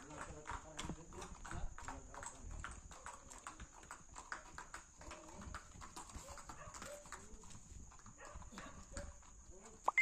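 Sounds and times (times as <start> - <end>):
horse hooves on concrete: 0.0 - 10.0.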